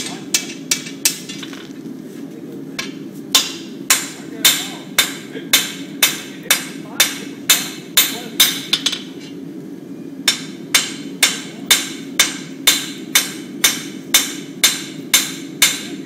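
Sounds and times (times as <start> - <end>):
hammer striking iron on anvil: 0.0 - 1.6, 2.8 - 9.3, 10.2 - 16.0.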